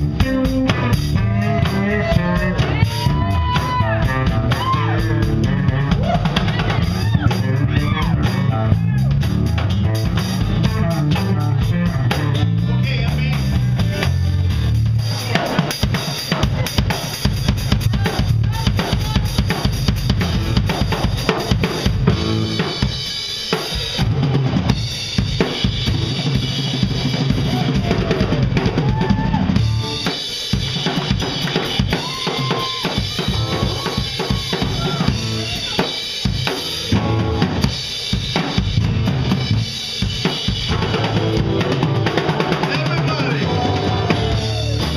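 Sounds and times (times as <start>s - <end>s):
electric bass notes: 0.0s - 15.3s, 16.5s - 23.1s, 24.0s - 31.2s, 33.0s - 44.9s
live band playing: 0.0s - 44.9s.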